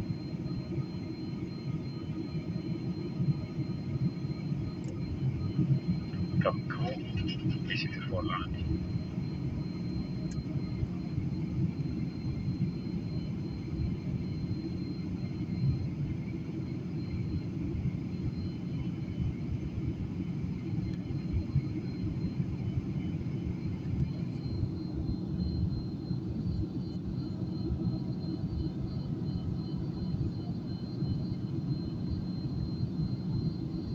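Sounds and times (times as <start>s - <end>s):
aircraft cabin engine rumble: 0.0s - 33.9s
faint high whine: 0.0s - 33.9s.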